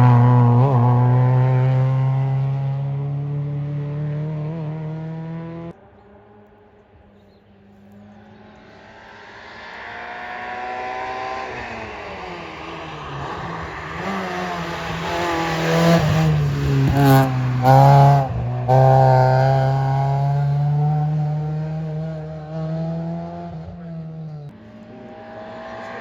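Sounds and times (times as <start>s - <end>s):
rally car engine revving: 0.0s - 5.8s, 7.7s - 26.0s.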